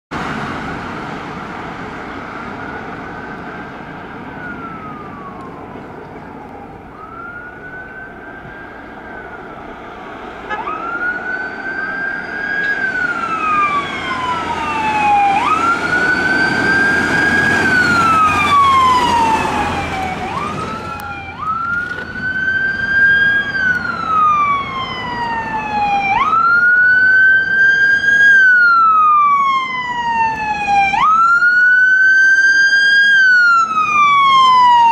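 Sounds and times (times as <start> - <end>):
emergency vehicle sirens wailing: 0.1 - 34.9
low rumble of engines and traffic: 0.1 - 34.9.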